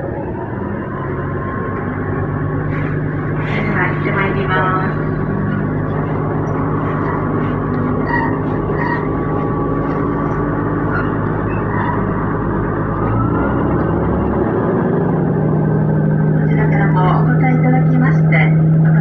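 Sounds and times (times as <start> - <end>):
diesel railcar engine drone: 0.0 - 19.0.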